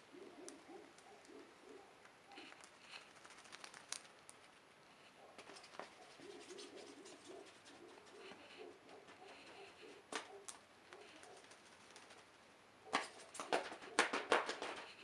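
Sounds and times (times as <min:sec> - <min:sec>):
faint bird cooing: 0:00.0 - 0:03.5, 0:04.6 - 0:15.0.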